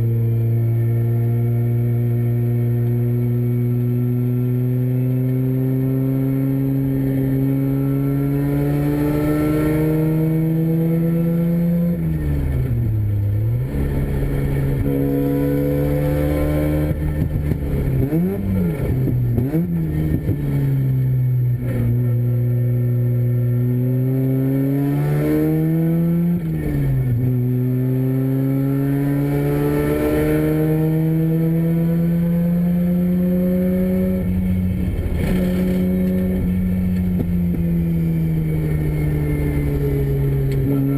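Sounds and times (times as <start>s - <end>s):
race car rotary engine: 0.0s - 40.9s.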